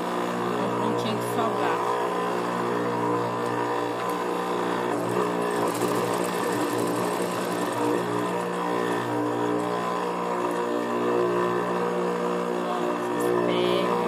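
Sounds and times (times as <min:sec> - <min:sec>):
sewing machine running: 0:02.6 - 0:14.0.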